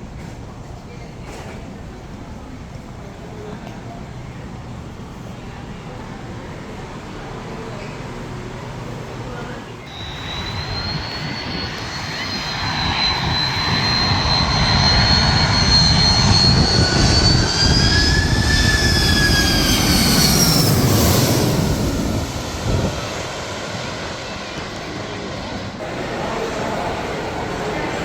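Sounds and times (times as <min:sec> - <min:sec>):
jet airliner engines passing: 0:00.0 - 0:28.0.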